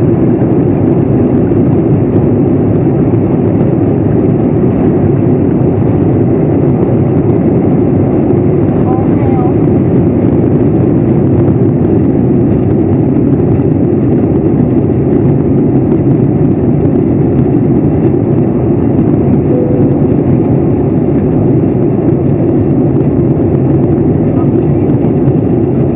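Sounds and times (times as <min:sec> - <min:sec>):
airliner cabin engine and airflow noise: 0:00.0 - 0:25.9.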